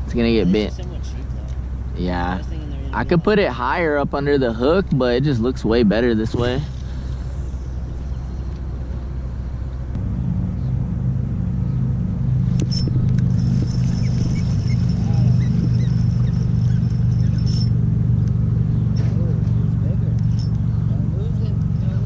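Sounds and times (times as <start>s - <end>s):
faint high whine: 0.0s - 21.0s
low engine rumble: 0.0s - 22.0s.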